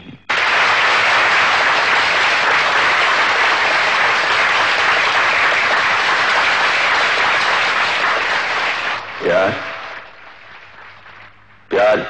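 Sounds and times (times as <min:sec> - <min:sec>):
audience applauding: 0:00.3 - 0:11.5.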